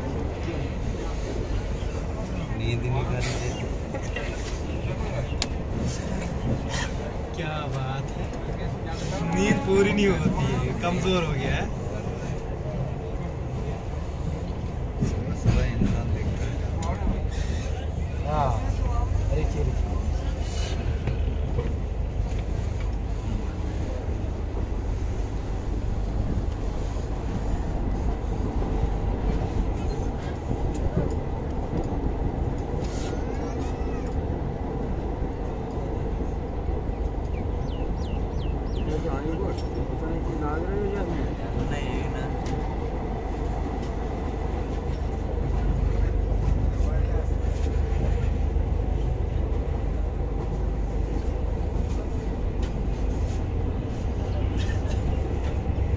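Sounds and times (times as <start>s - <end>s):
train wheels rumbling: 0.0s - 55.9s.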